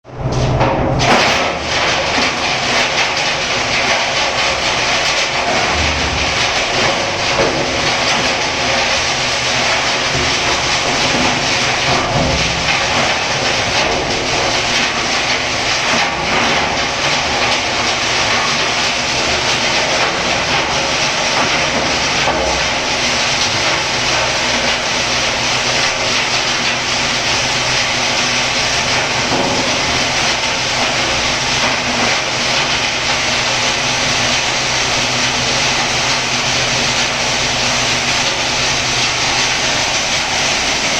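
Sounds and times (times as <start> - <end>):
low machine hum: 0.1 - 40.9
industrial grinder grinding: 1.0 - 40.9.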